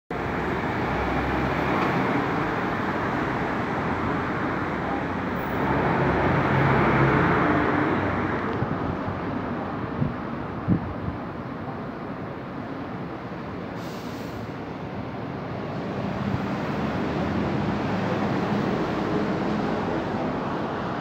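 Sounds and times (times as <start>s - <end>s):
traffic on wet street: 0.1s - 21.0s.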